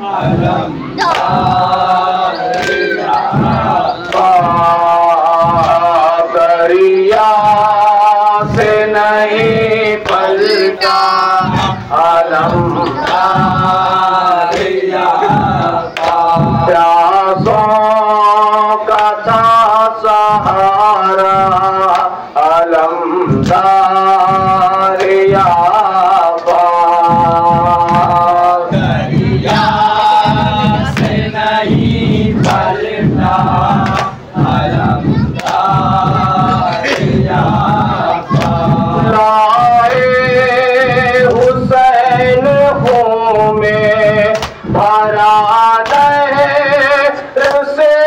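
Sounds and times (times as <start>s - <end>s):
crowd singing along: 0.0s - 48.0s
men singing through a microphone: 0.0s - 48.0s
rhythmic chest beating: 0.0s - 48.0s.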